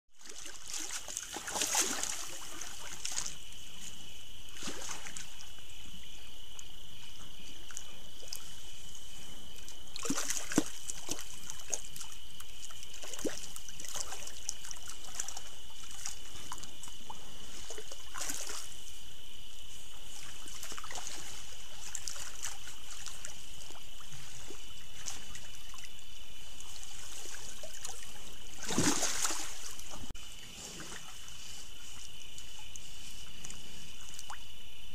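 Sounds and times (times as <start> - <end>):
water sloshing and splashing: 0.2 - 5.9, 7.3 - 34.5.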